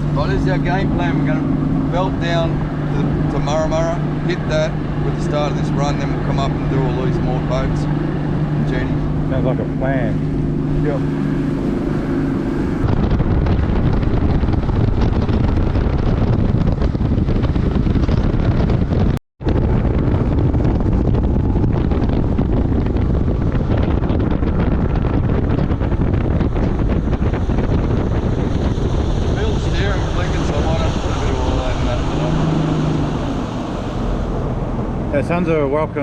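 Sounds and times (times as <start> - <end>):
motorboat engine hum: 0.0 - 36.0
wind buffeting microphone: 0.0 - 36.0.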